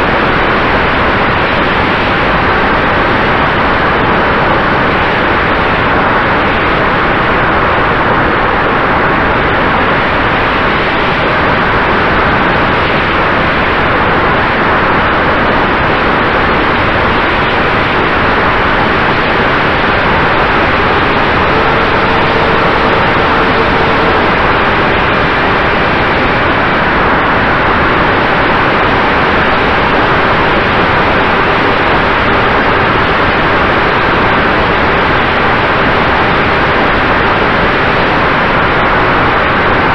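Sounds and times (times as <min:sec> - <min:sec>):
faint steady whine: 0:00.0 - 0:39.9
wind rush and motor noise: 0:00.0 - 0:39.9.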